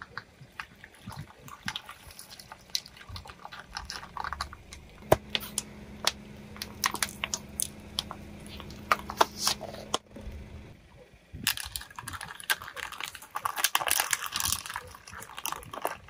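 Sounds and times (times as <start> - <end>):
small hard objects clicking: 0.0 - 9.2, 11.5 - 16.0
steady low hum: 0.0 - 16.0.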